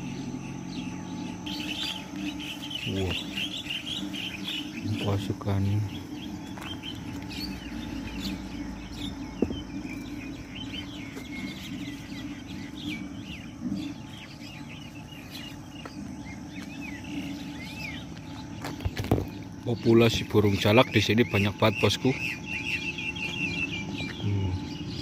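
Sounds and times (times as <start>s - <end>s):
low background hum: 0.0s - 25.0s
starlings chirping and whistling: 0.0s - 25.0s.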